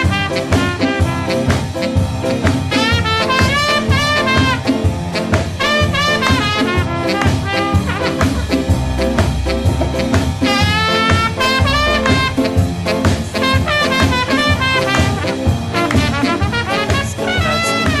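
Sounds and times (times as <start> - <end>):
ska brass instrumental: 0.0 - 18.0.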